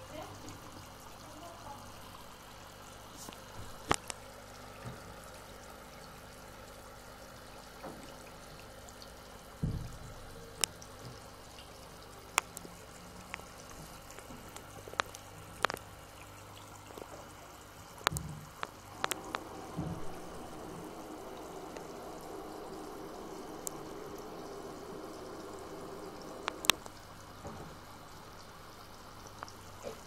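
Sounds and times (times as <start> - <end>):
faint steady hum: 0.0 - 30.0
water drips and splashes: 0.0 - 30.0.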